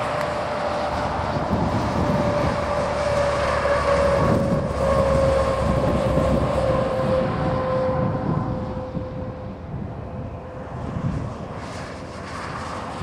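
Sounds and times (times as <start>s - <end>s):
low road rumble: 0.0s - 13.0s
truck driving past: 0.0s - 13.0s.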